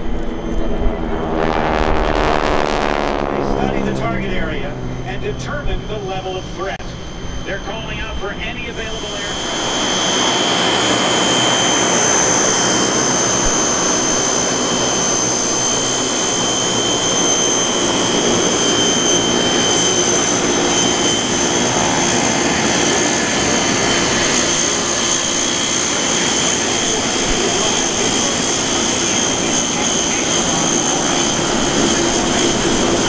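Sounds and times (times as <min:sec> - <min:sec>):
propeller aircraft engines droning: 0:00.0 - 0:33.0.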